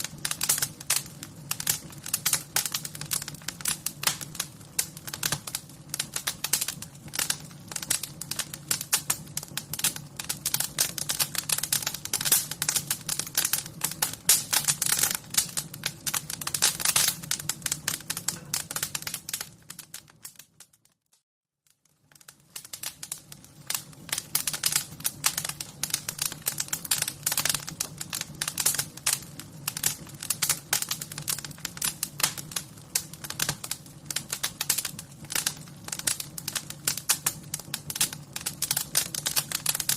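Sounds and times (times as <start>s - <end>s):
wood fire crackling: 0.0s - 20.9s, 21.6s - 39.9s.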